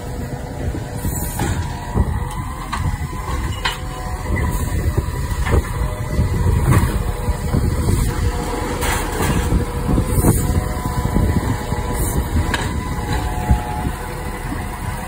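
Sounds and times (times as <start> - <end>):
garbage truck running: 0.0 - 15.0
hydraulic arm and bin clunks: 0.0 - 15.0.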